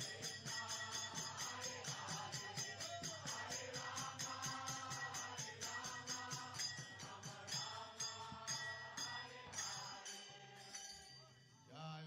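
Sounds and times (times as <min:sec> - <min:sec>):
jingling percussion beat: 0:00.0 - 0:11.7.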